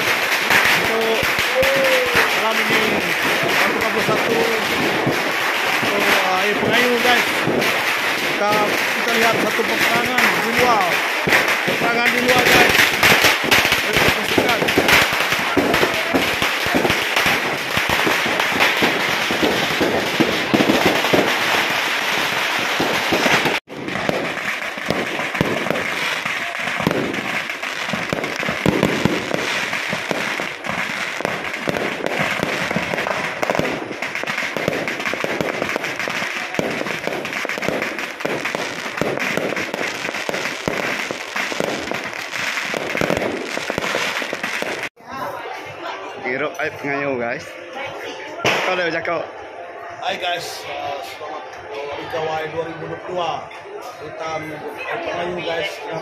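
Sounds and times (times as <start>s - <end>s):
firecrackers crackling and banging: 0.0s - 56.0s.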